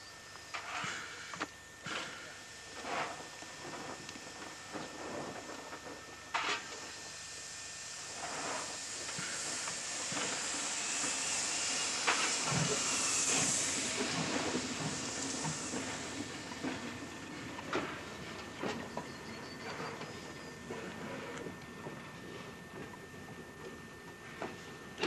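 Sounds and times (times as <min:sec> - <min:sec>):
steam locomotive hissing: 0:00.6 - 0:22.9.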